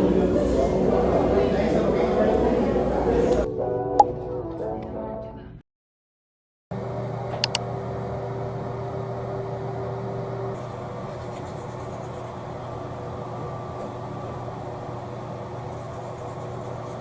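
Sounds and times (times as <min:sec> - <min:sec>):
steady mechanical hum: 0:00.0 - 0:03.5, 0:06.7 - 0:17.0.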